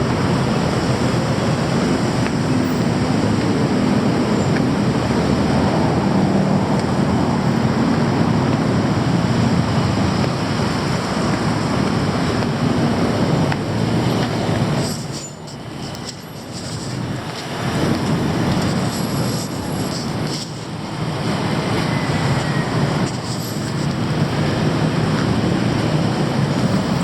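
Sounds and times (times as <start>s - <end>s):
passing vehicle rumble: 0.0s - 27.0s.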